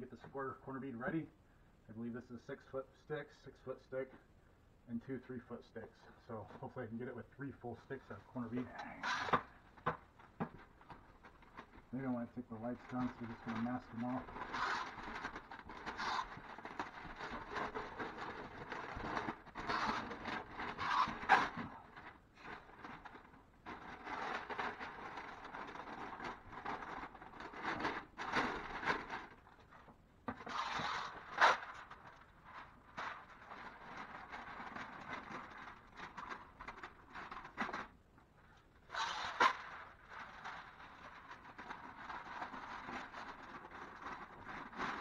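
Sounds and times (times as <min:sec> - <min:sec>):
masking paper crinkling: 0:06.2 - 0:45.0.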